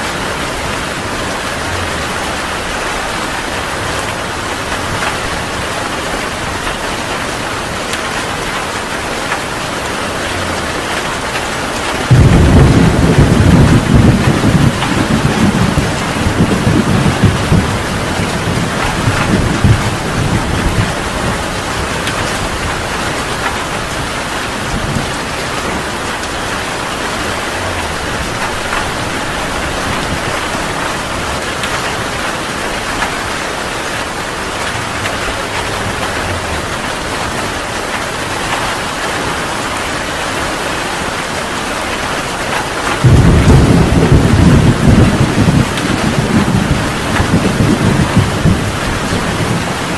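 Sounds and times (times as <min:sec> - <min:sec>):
thunder rumbling: 0:00.0 - 0:39.0, 0:42.4 - 0:49.9
heavy rain pouring: 0:00.0 - 0:49.9.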